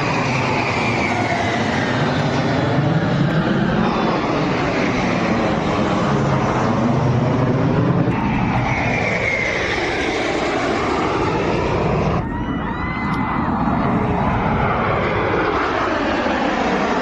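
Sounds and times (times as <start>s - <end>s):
military aircraft flying past: 0.0s - 17.0s.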